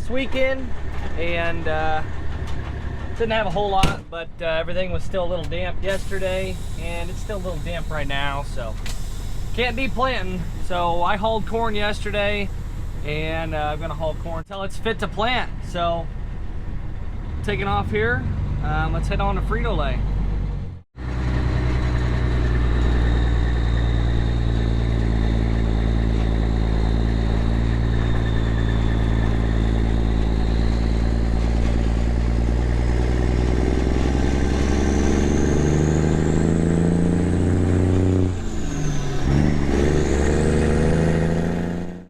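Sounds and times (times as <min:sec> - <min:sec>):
truck engine droning: 0:00.0 - 0:42.0.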